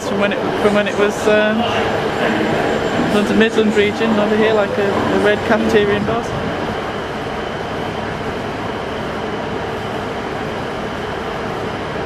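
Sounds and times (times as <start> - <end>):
train diesel engines idling: 0.0 - 12.0.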